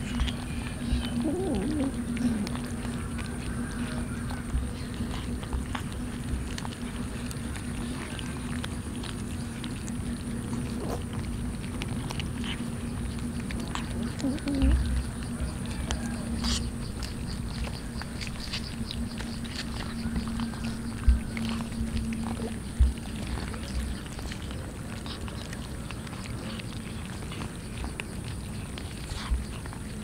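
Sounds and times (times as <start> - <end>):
cats chewing and smacking: 0.0 - 30.0
steady low hum: 0.0 - 30.0.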